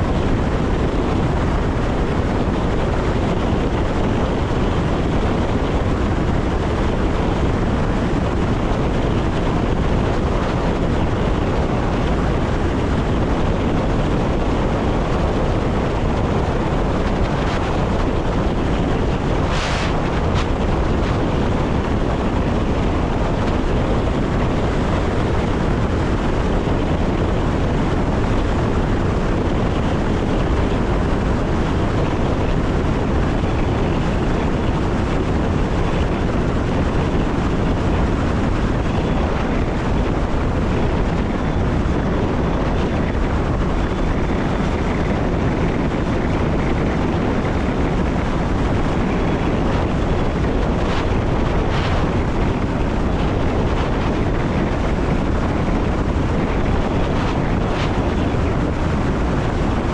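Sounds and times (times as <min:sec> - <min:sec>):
train wheel and rail rush: 0:00.0 - 0:59.9.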